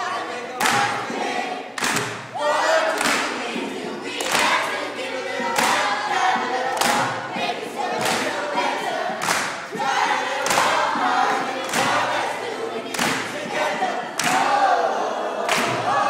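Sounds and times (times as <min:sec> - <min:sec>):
group singing: 0:00.0 - 0:16.0
clap-like hits on a beat: 0:00.1 - 0:16.0.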